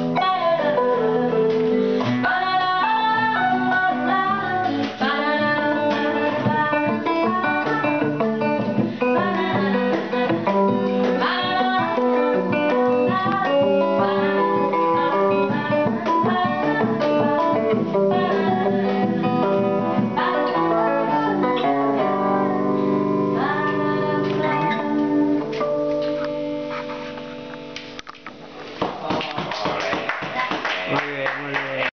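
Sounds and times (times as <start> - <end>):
electric guitar single-note lines: 0.0 - 28.8
acoustic guitar: 0.0 - 31.2.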